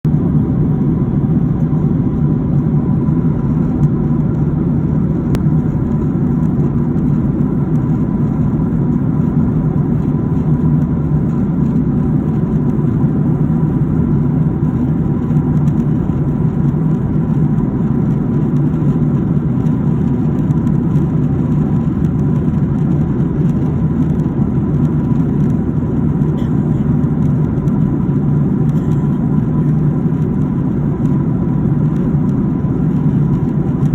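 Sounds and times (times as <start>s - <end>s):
airliner cabin drone: 0.0s - 33.9s
faint thin whine: 0.1s - 33.9s.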